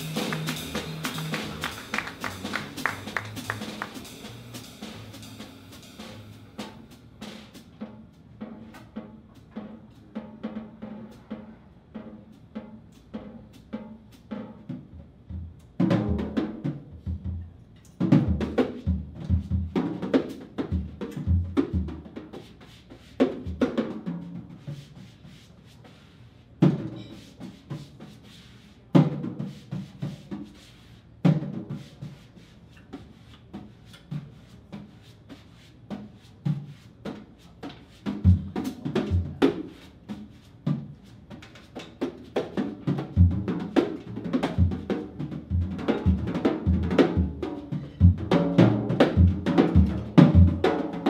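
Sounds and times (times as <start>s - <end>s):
drum kit played with hands: 0.0s - 51.0s.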